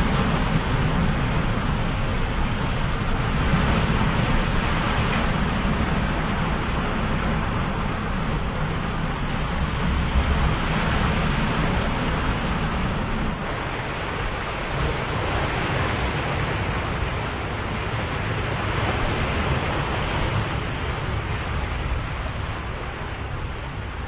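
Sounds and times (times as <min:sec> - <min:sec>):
deep rumble: 0:00.0 - 0:24.0
waves breaking: 0:00.0 - 0:24.0.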